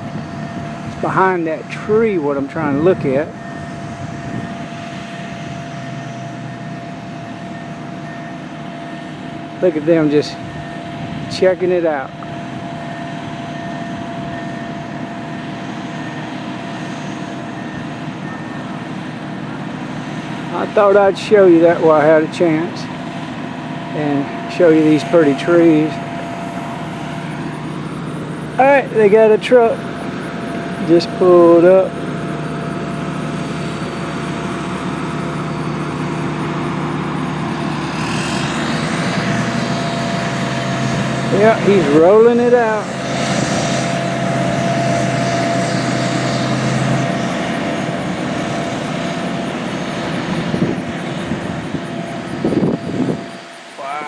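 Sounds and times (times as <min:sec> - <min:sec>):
faint steady whine: 0:00.0 - 0:54.0
low engine rumble: 0:00.0 - 0:54.0.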